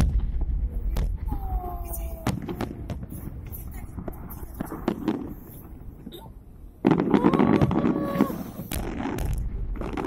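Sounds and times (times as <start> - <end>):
dense crackling of firework shells: 0.0 - 10.0
firework bangs and deep booms: 0.0 - 10.0
fireworks popping and crackling: 0.0 - 10.0.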